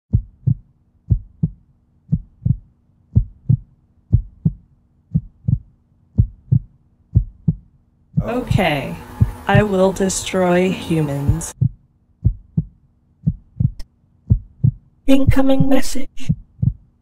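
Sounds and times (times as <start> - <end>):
heartbeat thumps: 0.1 - 10.2, 11.0 - 17.0
faint steady hum: 0.1 - 17.0.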